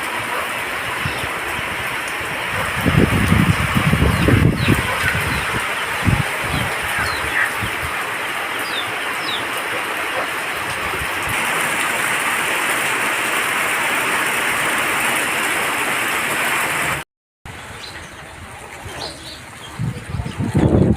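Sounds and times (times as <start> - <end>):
heavy rain falling: 0.0 - 20.9.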